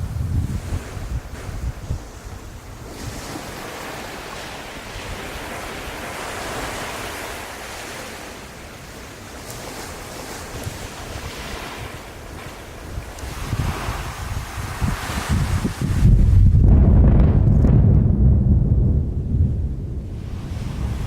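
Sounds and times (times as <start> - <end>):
sea surf rushing: 0.0 - 21.0
wind buffeting microphone: 0.0 - 21.0.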